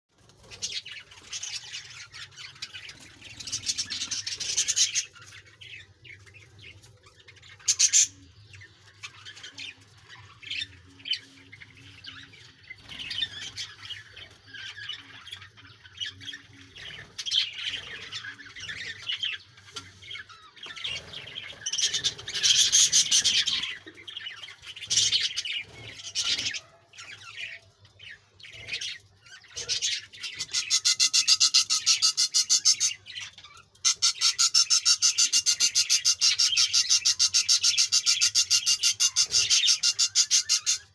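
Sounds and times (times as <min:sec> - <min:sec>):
budgerigars chirping and squawking: 0:00.3 - 0:40.9.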